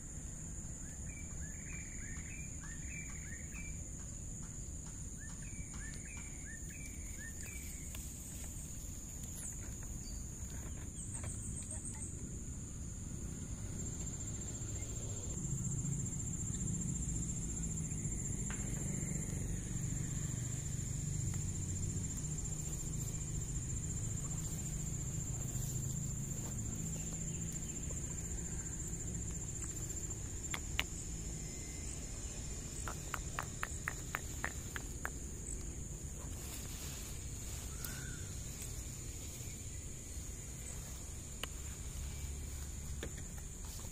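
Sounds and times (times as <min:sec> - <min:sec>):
high-pitched insect trill: 0:00.0 - 0:43.9.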